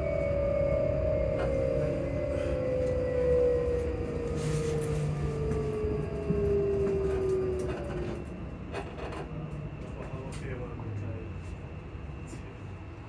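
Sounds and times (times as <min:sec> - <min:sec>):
train wheels rumbling on rails: 0:00.0 - 0:12.9
train motors humming: 0:00.0 - 0:13.0.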